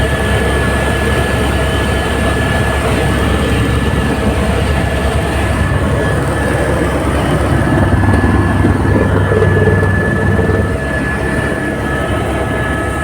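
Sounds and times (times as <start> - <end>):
helicopter turbine and rotor: 0.0 - 13.0.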